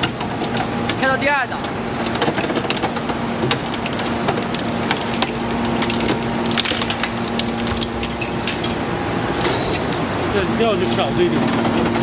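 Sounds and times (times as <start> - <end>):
metal crackling and snapping: 0.0 - 10.3
hydraulic unit humming: 0.0 - 12.0.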